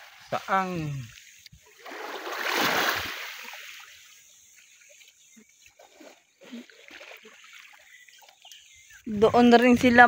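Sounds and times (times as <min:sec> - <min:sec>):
water splashing: 0:00.0 - 0:09.0.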